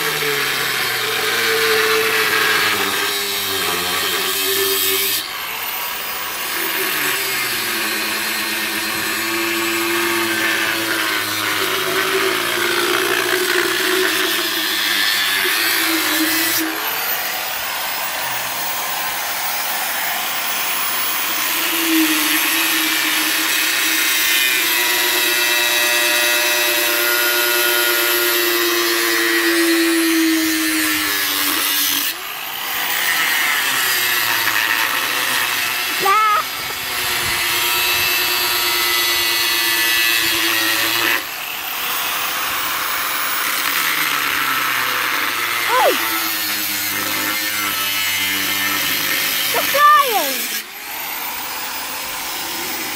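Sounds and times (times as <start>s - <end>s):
angle grinder cutting steel: 0.0s - 52.9s.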